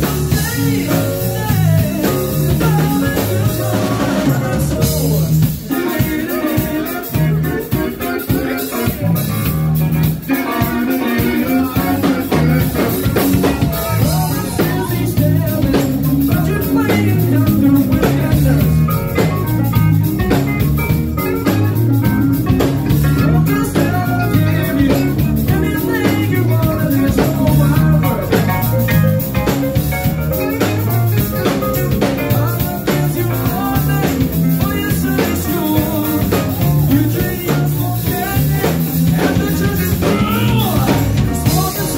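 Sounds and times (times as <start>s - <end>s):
person singing: 0.0s - 21.8s, 22.4s - 41.9s
drum kit: 0.0s - 41.9s
electric guitar: 0.0s - 41.9s
keyboards: 0.0s - 41.9s.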